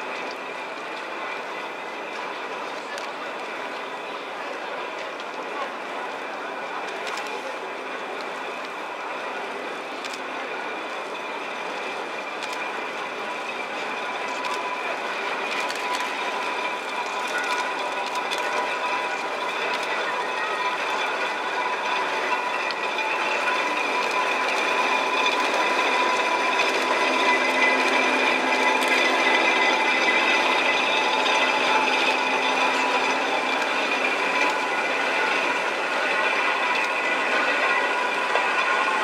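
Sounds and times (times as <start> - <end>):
high steady whine: 0.0 - 39.0.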